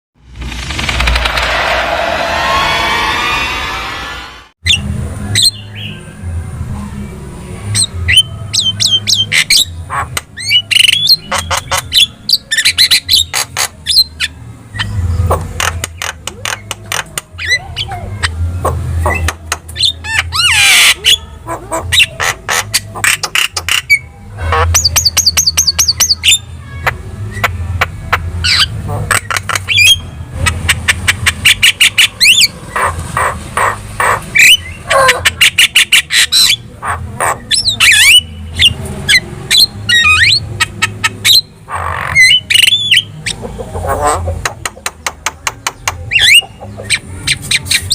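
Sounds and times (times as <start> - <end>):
myna bird singing: 7.7 - 47.9.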